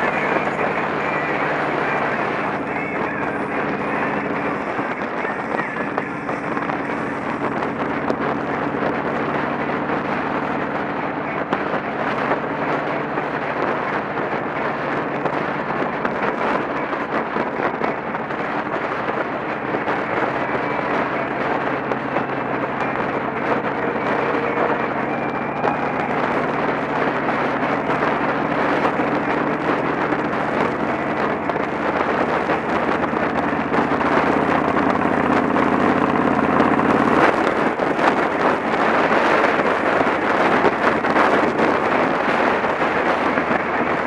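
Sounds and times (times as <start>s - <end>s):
motorcycle engine drone: 0.0s - 44.0s
wind buffeting microphone: 0.0s - 44.0s.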